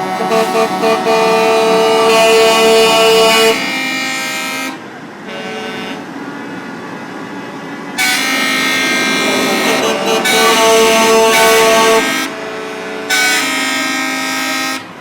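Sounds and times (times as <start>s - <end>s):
truck horn blasts: 0.0s - 6.1s, 8.0s - 15.0s.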